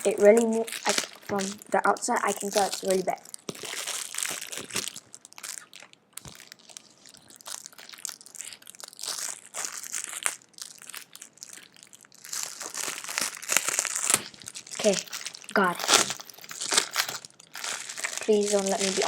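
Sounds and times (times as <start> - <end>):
packaging crinkling: 0.0 - 19.0.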